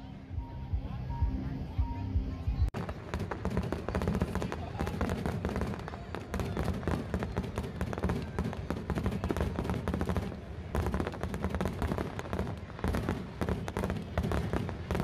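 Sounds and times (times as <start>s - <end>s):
fireworks popping and crackling: 2.7s - 15.0s.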